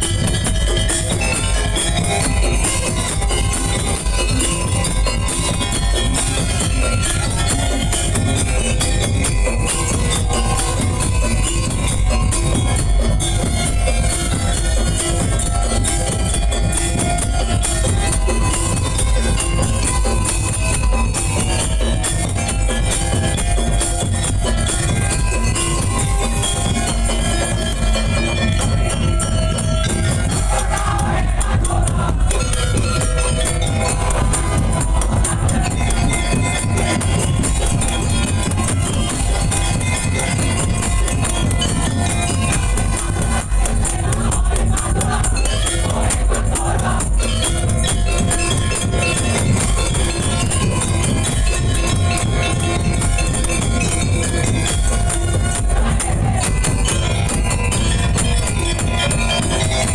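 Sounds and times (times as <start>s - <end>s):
fast percussion ensemble drumming: 0.0s - 59.9s
jingling percussion: 0.0s - 59.9s.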